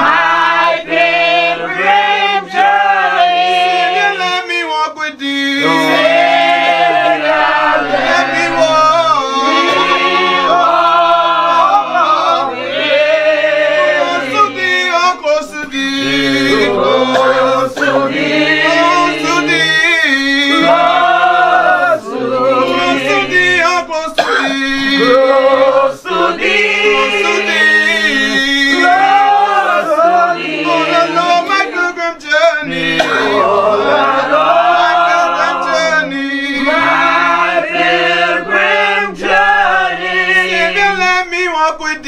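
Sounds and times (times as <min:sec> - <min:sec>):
congregation singing a hymn: 0:00.0 - 0:41.9.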